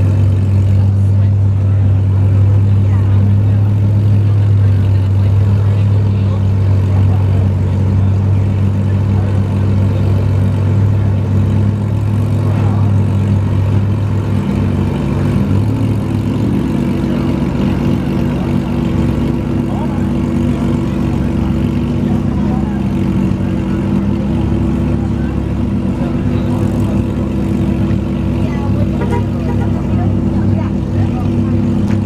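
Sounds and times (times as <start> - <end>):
car engine idling: 0.0 - 32.0
different engine sound: 0.0 - 32.0.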